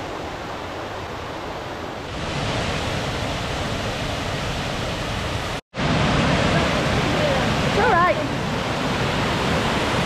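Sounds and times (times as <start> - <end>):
waterfall rushing: 1.4 - 10.0.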